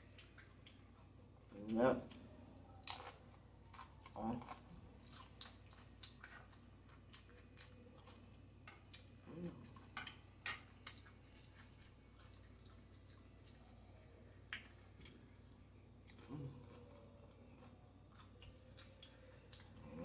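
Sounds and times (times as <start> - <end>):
quiet chewing of crunchy food: 0.0 - 20.0.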